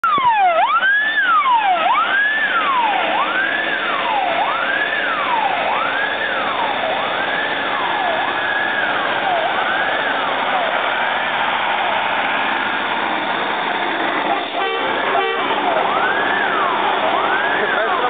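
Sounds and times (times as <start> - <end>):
fire engine siren wailing: 0.0 - 18.0.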